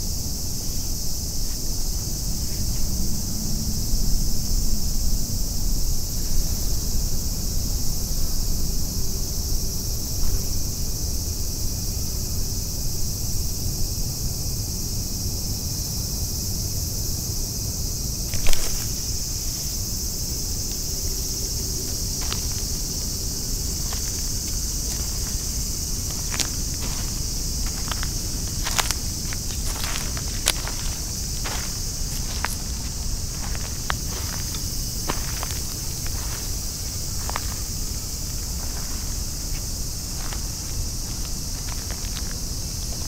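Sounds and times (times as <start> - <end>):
cicada chorus drone: 0.0 - 43.0.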